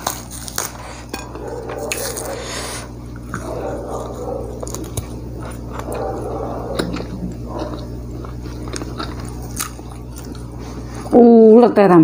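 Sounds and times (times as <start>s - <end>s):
person chewing: 0.0s - 11.1s
low electrical hum: 0.0s - 12.0s.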